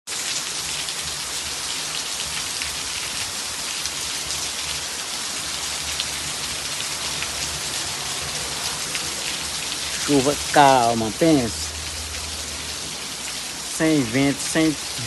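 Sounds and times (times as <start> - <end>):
raindrops ticking: 0.1 - 15.0
steady rain hiss: 0.1 - 15.0.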